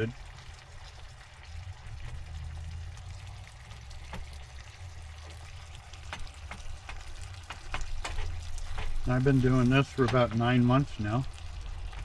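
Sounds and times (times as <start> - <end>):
food sizzling with crackles: 0.0 - 12.0
low stove hum: 0.0 - 12.0.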